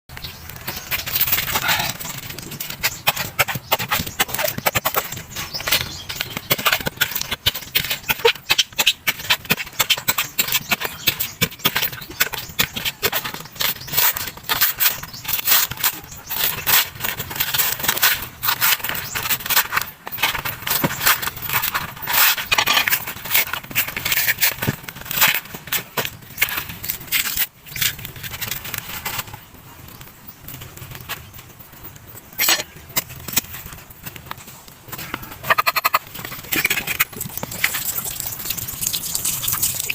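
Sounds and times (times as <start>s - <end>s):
coconut husk tearing and scraping: 0.2s - 31.3s, 32.3s - 39.9s.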